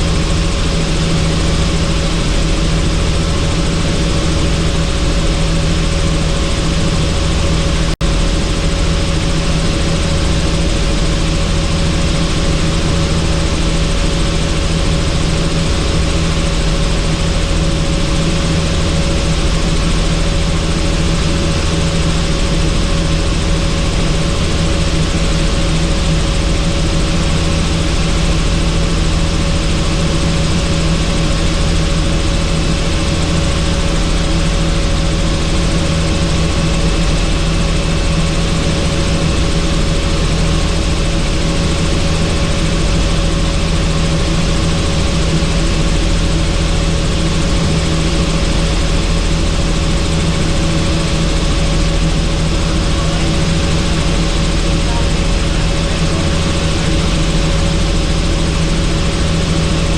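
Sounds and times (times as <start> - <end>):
helicopter rotor and engine drone: 0.0 - 59.9.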